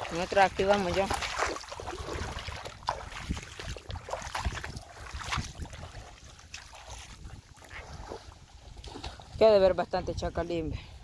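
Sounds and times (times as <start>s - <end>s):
splashing in river water: 0.0s - 9.5s
wind buffeting microphone: 0.0s - 11.0s.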